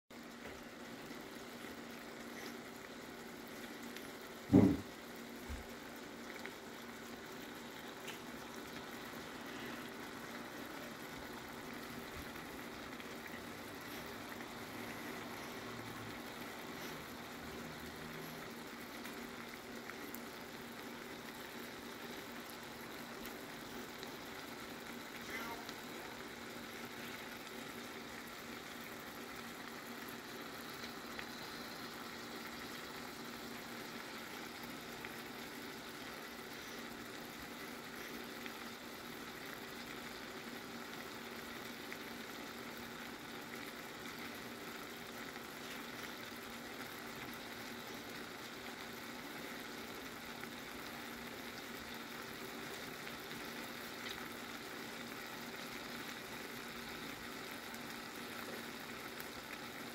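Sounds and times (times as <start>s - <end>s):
sauce bubbling and sizzling: 0.1s - 59.9s.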